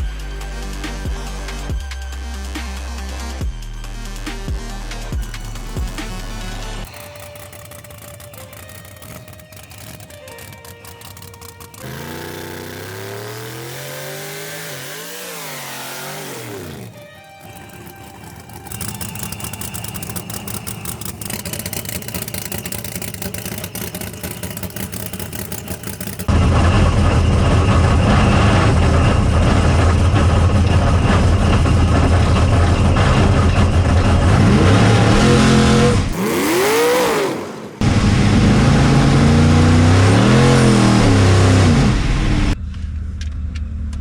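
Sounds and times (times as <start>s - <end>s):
drag race car engine: 0.0s - 44.0s.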